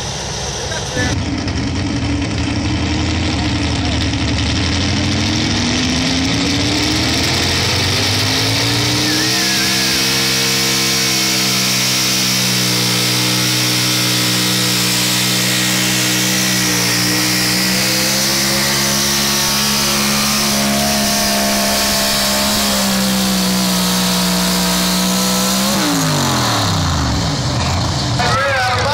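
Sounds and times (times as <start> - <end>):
pulling vehicle engine revving: 0.0 - 28.9.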